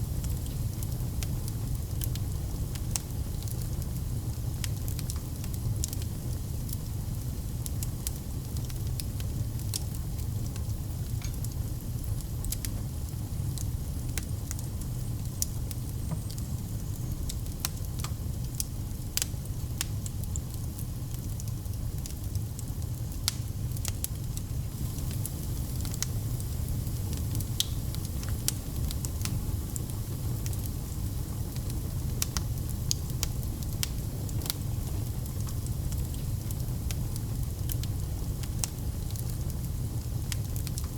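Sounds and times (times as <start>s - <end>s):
fire crackling in a fireplace: 0.0s - 40.9s.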